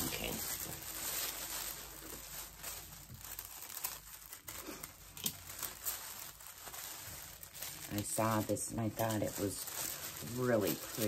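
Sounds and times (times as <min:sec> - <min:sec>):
paper and fabric rustling: 0:00.0 - 0:11.0.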